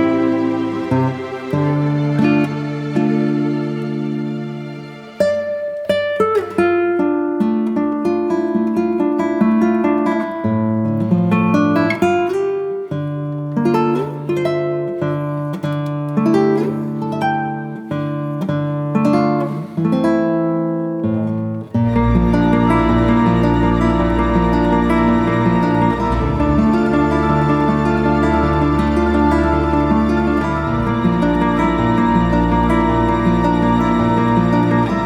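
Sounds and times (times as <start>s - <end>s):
acoustic guitar melody: 0.0s - 35.0s.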